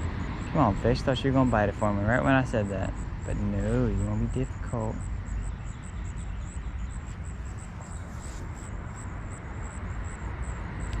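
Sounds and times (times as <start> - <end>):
steady low rumble: 0.0 - 11.0
faint high chirping: 0.2 - 11.0.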